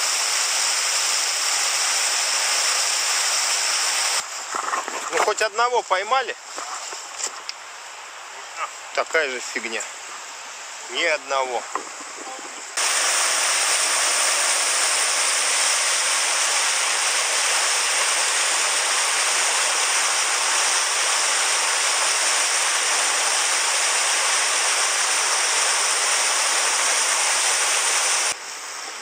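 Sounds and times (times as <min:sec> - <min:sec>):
rushing water: 0:00.0 - 0:06.6, 0:07.8 - 0:29.0.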